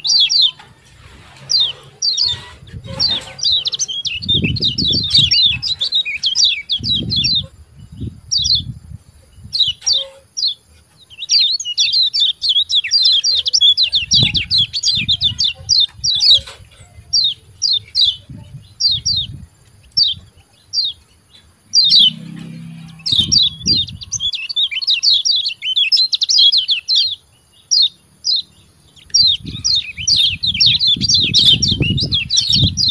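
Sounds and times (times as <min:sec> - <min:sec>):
high sharp bird chirps: 0:00.0 - 0:08.7, 0:09.4 - 0:32.9.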